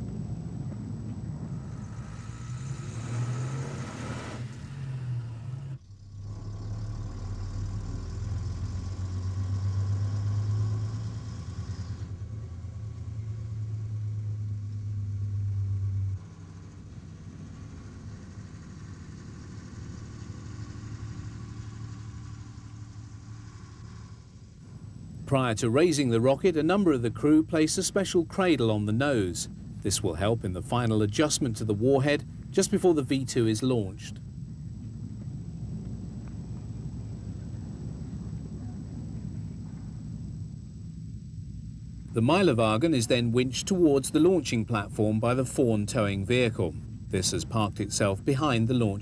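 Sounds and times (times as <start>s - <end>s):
vehicle engine humming: 0.0s - 49.0s.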